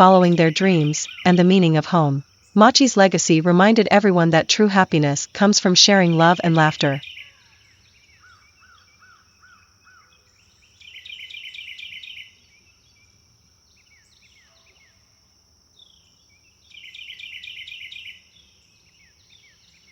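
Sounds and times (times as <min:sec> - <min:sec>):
songbirds chirping: 0:00.0 - 0:19.9.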